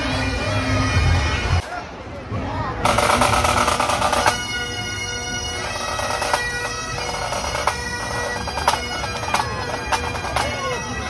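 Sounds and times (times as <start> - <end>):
bagpipes playing: 0.0 - 1.6, 2.9 - 11.0.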